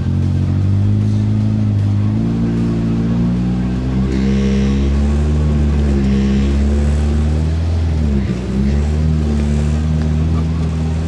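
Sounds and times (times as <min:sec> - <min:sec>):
off-road vehicle engine under load: 0:00.0 - 0:11.0.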